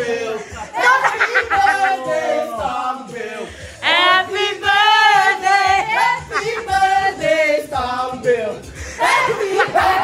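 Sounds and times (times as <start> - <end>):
person singing birthday song: 0.0 - 10.0.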